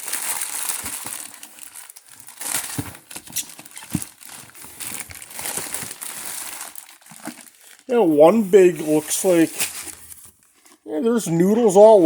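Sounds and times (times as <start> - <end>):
packaging crinkling and rustling: 0.0 - 10.9.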